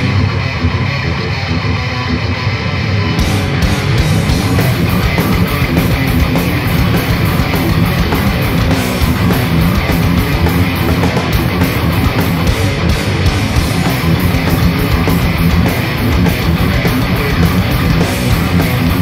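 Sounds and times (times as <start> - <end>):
bass guitar: 0.0 - 19.0
distorted electric guitars: 0.0 - 19.0
fast steady drums: 3.2 - 19.0.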